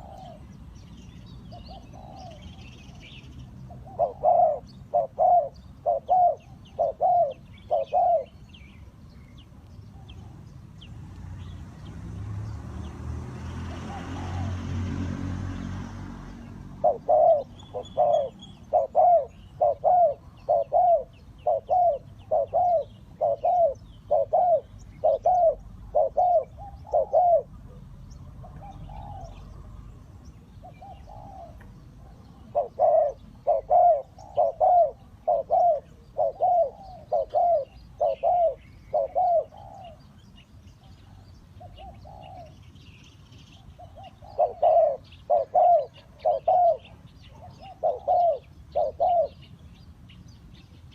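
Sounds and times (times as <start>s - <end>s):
doves cooing: 0.0s - 10.6s, 13.6s - 15.0s, 16.7s - 42.7s, 43.5s - 49.5s
small birds chirping: 0.0s - 14.7s, 15.5s - 50.9s.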